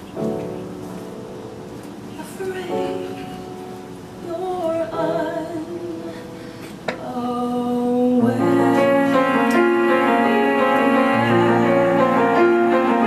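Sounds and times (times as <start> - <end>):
piano chords: 0.0 - 13.0
woman singing: 2.1 - 13.0.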